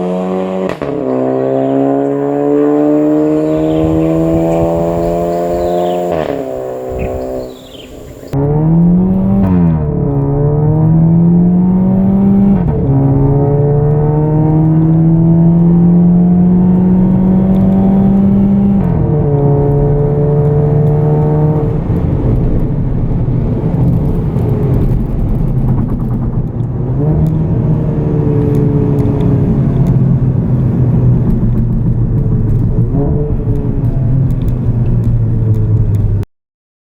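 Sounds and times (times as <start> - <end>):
car engine accelerating: 0.0 - 36.2.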